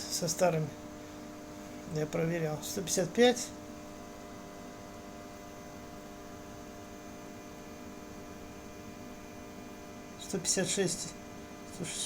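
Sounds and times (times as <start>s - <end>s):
electrical hum with steady tones: 0.0s - 12.0s.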